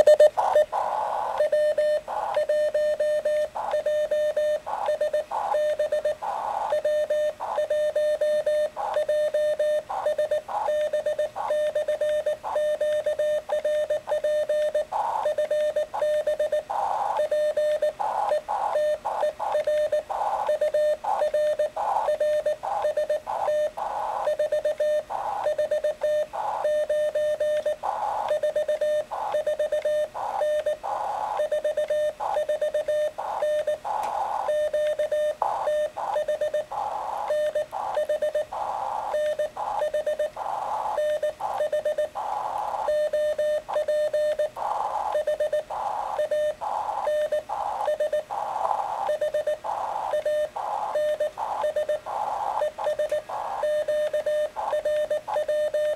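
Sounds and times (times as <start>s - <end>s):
radio receiver hiss: 0.0s - 55.9s.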